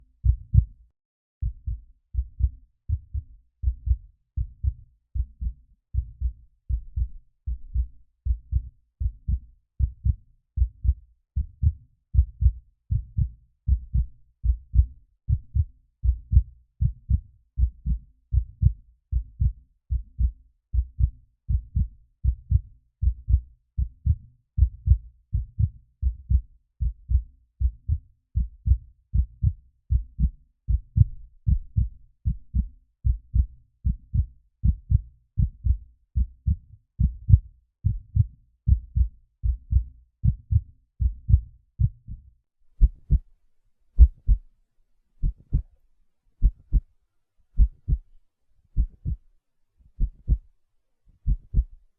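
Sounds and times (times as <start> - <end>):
heartbeat double thumps: 0.2 - 0.8, 1.4 - 42.2, 42.8 - 43.3, 44.0 - 44.5, 45.2 - 45.7, 46.4 - 46.8, 47.6 - 48.1, 48.8 - 49.2, 50.0 - 50.4, 51.2 - 51.8.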